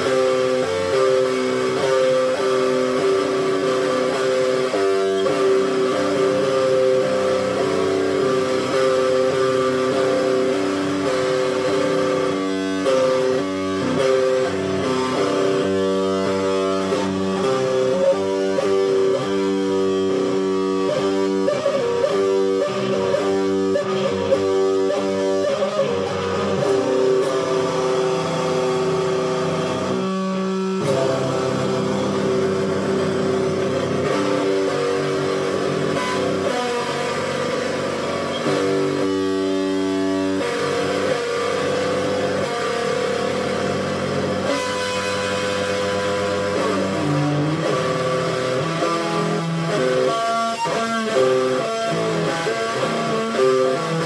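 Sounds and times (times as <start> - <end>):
electric guitar rock chords: 0.0 - 54.0.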